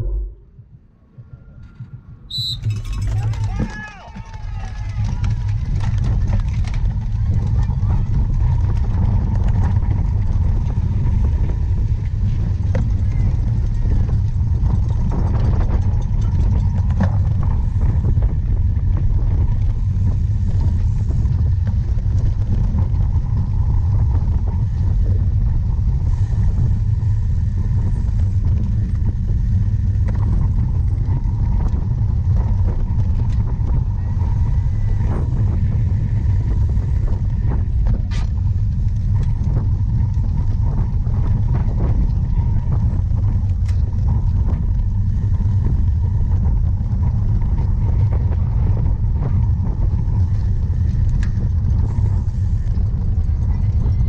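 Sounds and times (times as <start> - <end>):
wind rumble on microphone: 0.0 - 54.0
bike clicks and rattles: 1.8 - 54.0.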